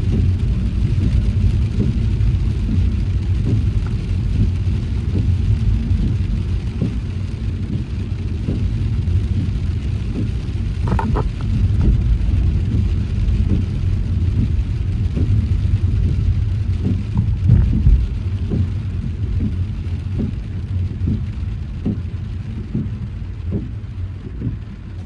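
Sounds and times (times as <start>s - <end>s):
rain hiss: 0.0s - 25.0s
road and engine rumble: 0.0s - 25.0s.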